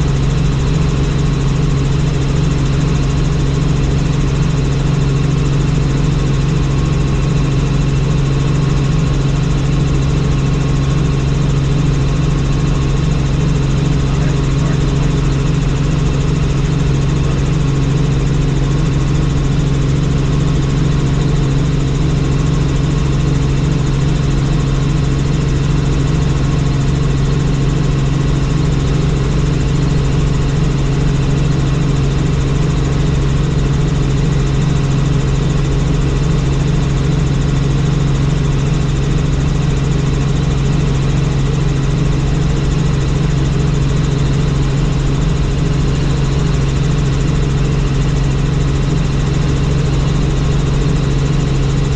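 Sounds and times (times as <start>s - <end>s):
helicopter rotor and engine drone: 0.0s - 51.9s.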